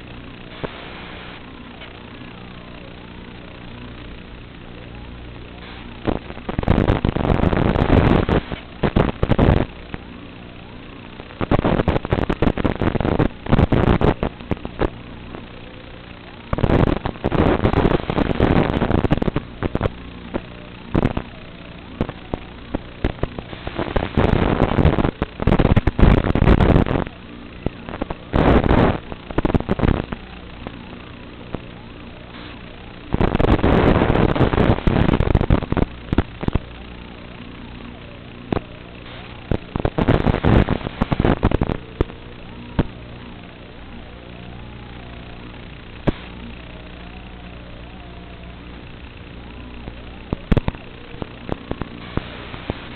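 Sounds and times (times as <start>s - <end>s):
quadcopter motors humming: 0.0s - 52.9s.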